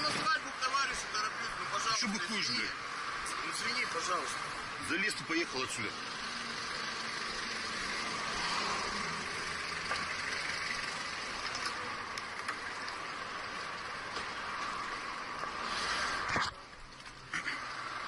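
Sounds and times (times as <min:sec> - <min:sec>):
road noise hiss: 0:00.0 - 0:18.0
vehicle engine running: 0:01.1 - 0:18.0.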